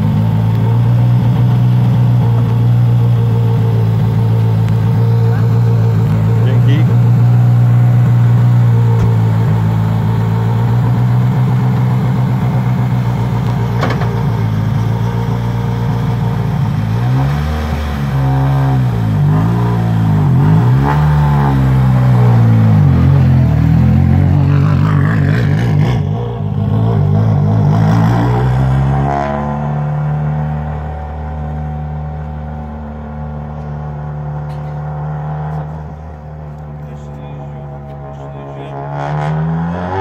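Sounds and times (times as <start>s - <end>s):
rally car engine idling and revving: 0.0s - 40.0s.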